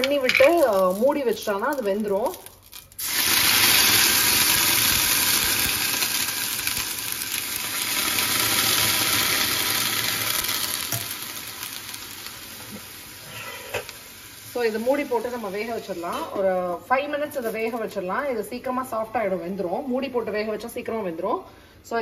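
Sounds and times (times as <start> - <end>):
loud sizzling in a pan: 0.0 - 17.8.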